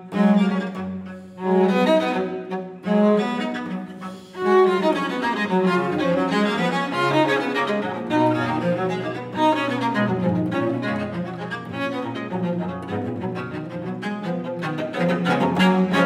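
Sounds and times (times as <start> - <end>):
two cellos playing fast duet: 0.0 - 16.0.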